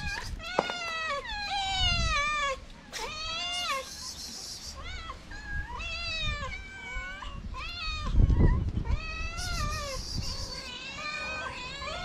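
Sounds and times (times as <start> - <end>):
cats meowing: 0.0 - 12.0.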